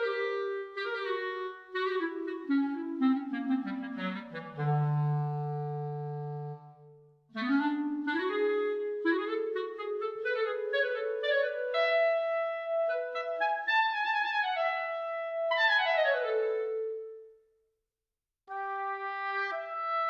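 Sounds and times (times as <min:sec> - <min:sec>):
clarinet playing fast legato: 0:00.0 - 0:06.8, 0:07.4 - 0:17.2, 0:18.5 - 0:20.0.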